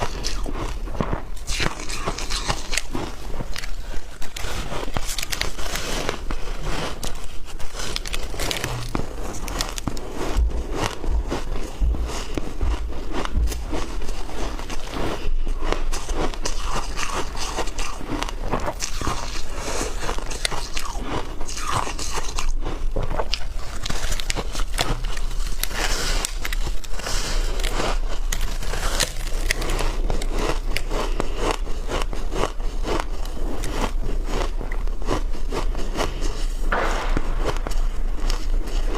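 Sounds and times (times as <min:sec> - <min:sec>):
person chewing ice: 0:00.0 - 0:38.9.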